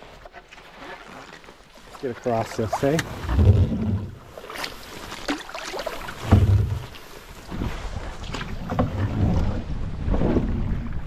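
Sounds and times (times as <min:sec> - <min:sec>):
water splashing against hull: 0:00.0 - 0:11.0.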